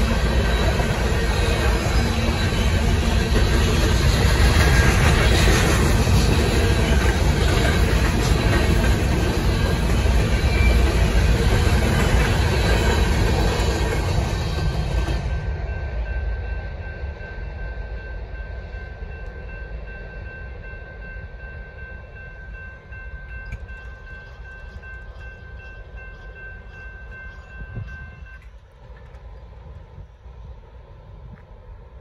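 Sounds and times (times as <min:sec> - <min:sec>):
railroad crossing bell ringing: 0:00.0 - 0:28.6
freight train rumble: 0:00.0 - 0:32.0.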